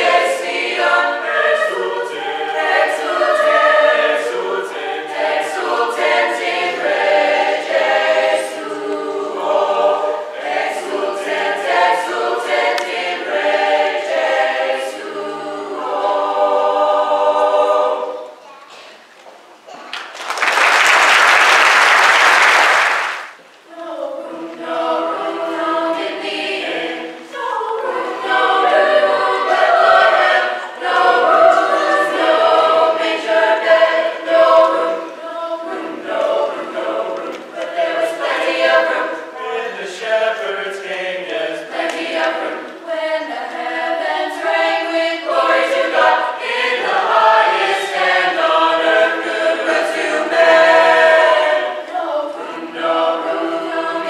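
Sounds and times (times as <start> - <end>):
choir singing in parts: 0.0 - 18.4, 22.4 - 54.0.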